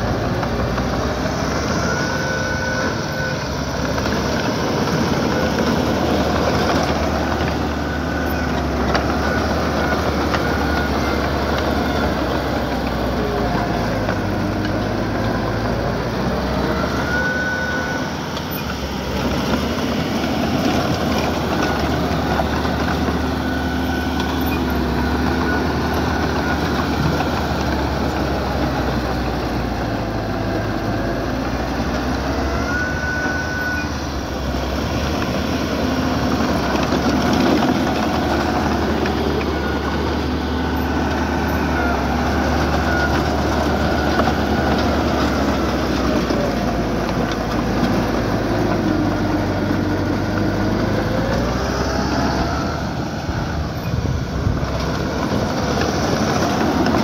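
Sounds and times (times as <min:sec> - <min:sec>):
diesel engine running: 0:00.0 - 0:57.0
faint whines: 0:00.0 - 0:57.0.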